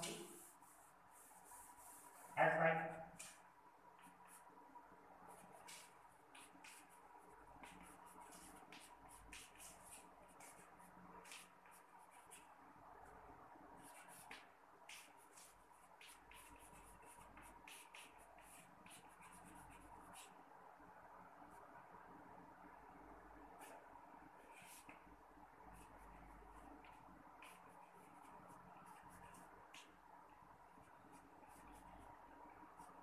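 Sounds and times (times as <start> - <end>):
chalk scratching on blackboard: 0.0 - 4.6, 5.3 - 12.6, 13.8 - 20.4, 23.5 - 25.0, 25.7 - 30.0, 30.7 - 33.0.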